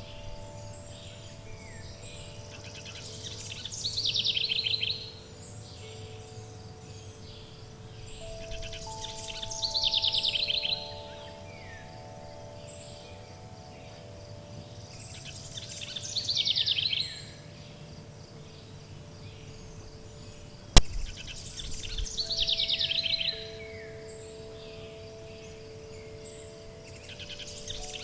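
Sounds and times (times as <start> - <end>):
songbird trilling: 0.0 - 28.0
wind chimes: 0.0 - 28.0.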